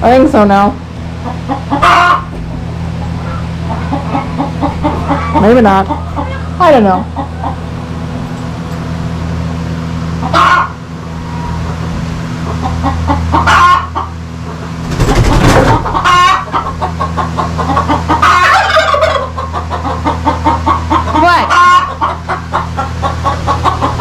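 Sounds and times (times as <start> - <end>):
steady low hum: 0.0 - 24.0
chickens clucking: 0.1 - 24.0.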